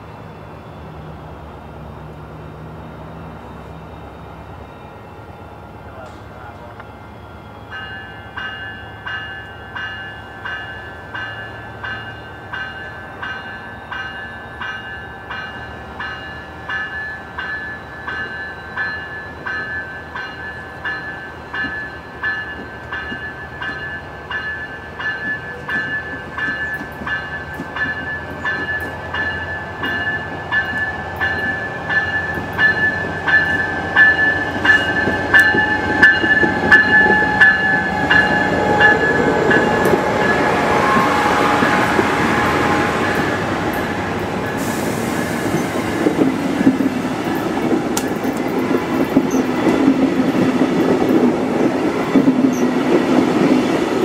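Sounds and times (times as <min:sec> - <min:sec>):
railroad bell ringing: 0:00.0 - 0:54.0
train rumble: 0:00.0 - 0:54.0.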